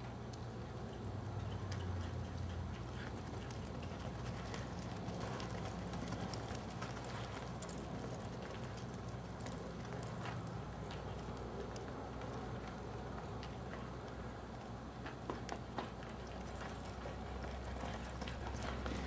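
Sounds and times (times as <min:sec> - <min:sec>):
horse hoofbeats on dirt: 0:00.1 - 0:19.0.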